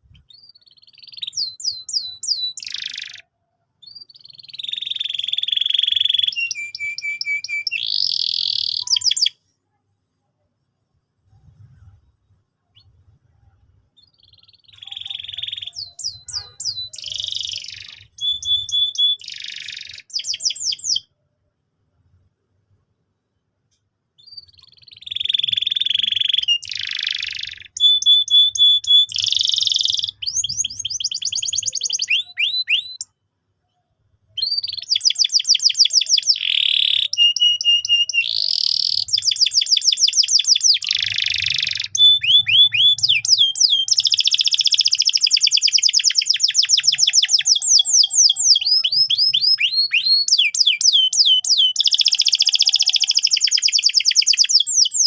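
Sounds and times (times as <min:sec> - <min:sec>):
canary singing: 0:00.0 - 0:09.4, 0:14.0 - 0:21.1, 0:24.2 - 0:33.2, 0:34.3 - 0:55.0.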